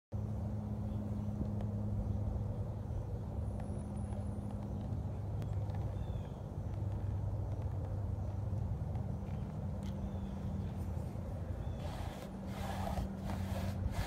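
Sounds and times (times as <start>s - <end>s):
low mechanical hum: 0.1s - 14.0s.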